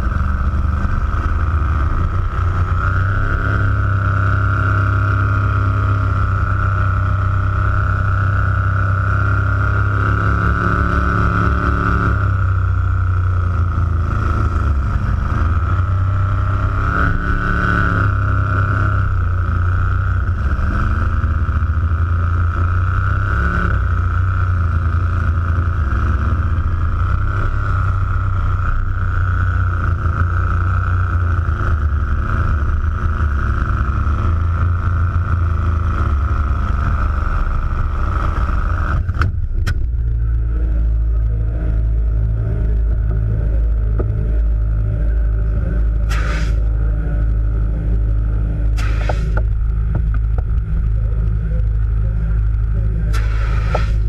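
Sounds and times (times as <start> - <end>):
supercharged car engine revving: 0.0 - 54.0.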